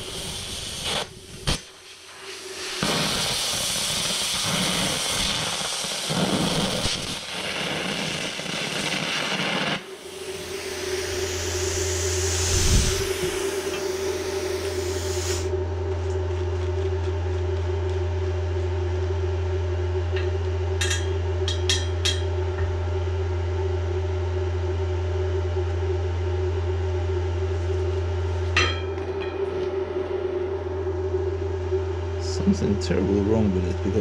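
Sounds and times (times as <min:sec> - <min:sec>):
welding machine humming: 0:00.0 - 0:24.1, 0:24.7 - 0:34.0.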